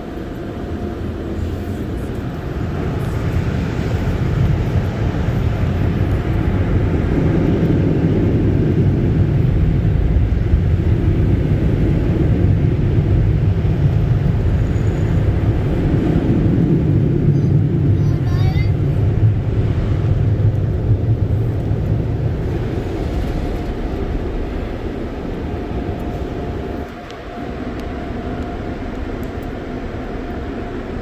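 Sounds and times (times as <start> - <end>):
car wash machinery rumble: 0.0 - 31.0.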